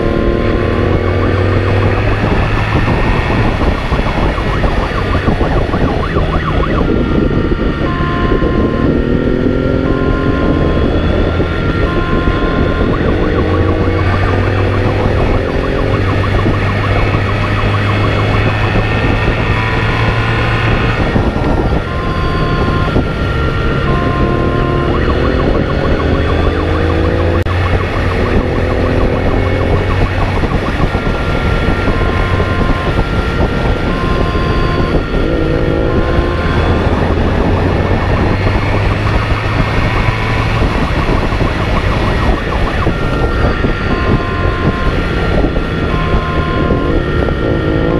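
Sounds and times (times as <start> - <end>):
motorcycle engine accelerating: 0.0 - 47.9
siren in short tones: 0.0 - 47.9
wind and road noise: 0.0 - 47.9.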